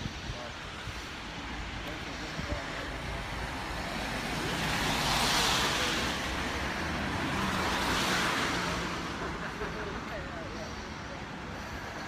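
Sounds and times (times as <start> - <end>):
road traffic: 0.0 - 12.0
car passing: 0.8 - 12.0.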